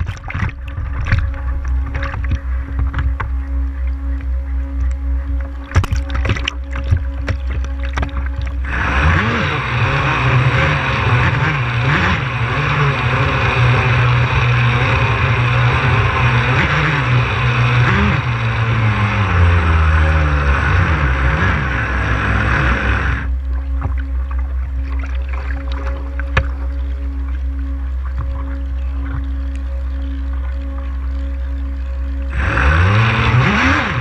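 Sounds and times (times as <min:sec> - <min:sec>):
water rushing: 0:00.0 - 0:34.0
electric motor whine: 0:00.6 - 0:34.0.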